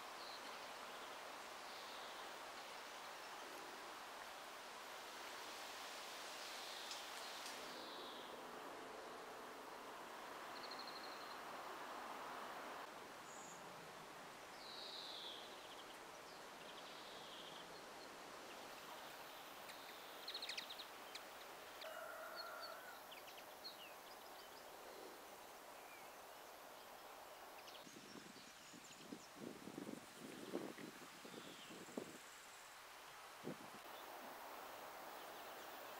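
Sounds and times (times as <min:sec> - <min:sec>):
steady light hiss: 0:00.0 - 0:35.9.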